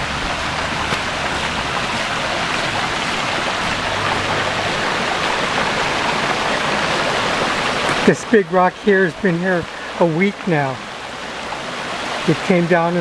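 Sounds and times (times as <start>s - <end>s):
rainwater runoff rushing over rocks: 0.0s - 13.0s.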